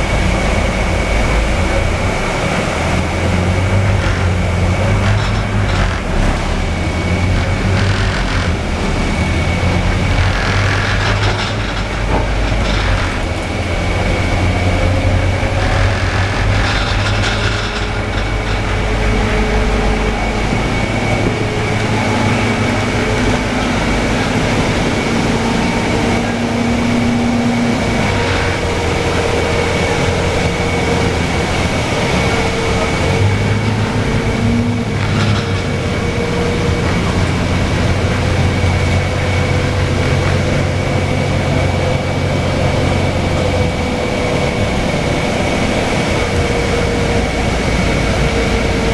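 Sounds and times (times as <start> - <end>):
bus diesel engine drone: 0.0 - 48.9
rattling noise bursts: 0.1 - 48.8.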